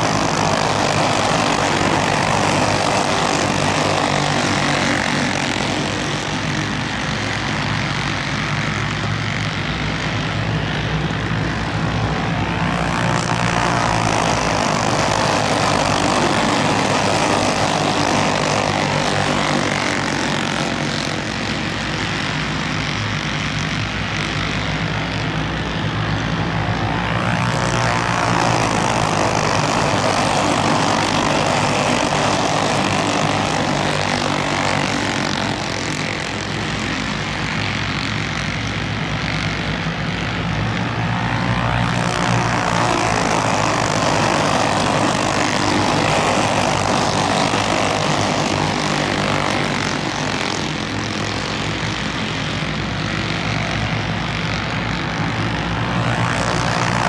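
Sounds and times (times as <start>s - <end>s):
racing kart engines buzzing: 0.0s - 57.0s.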